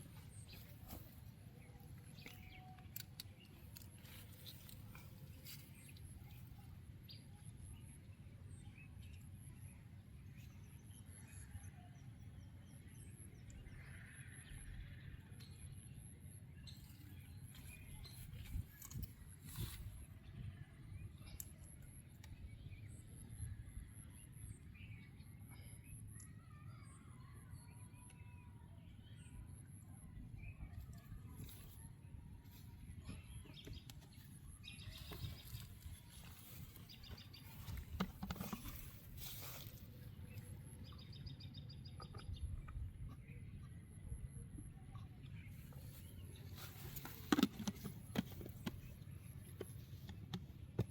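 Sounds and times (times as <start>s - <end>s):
small birds chirping: 0.0s - 11.6s, 13.0s - 23.6s, 24.2s - 50.9s.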